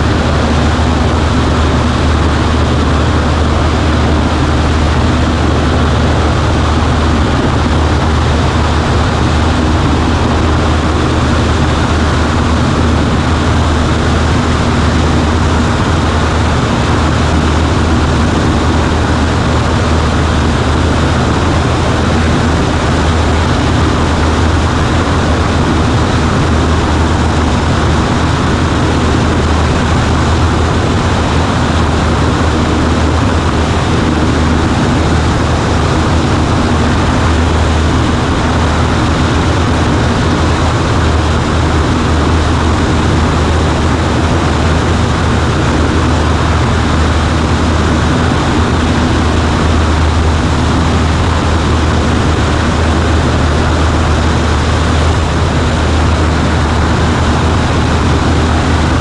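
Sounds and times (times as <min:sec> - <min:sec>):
airplane engine drone in cabin: 0:00.0 - 0:59.0.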